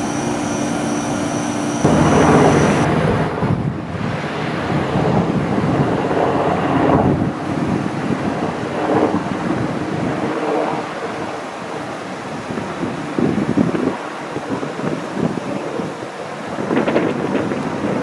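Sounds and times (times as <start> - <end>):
helicopter flying overhead: 0.0 - 18.0.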